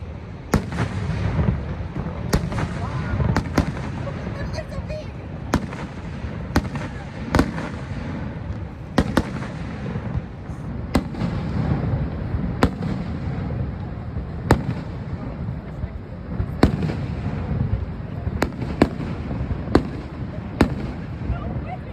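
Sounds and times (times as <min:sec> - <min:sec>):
fireworks bursting: 0:00.0 - 0:21.9.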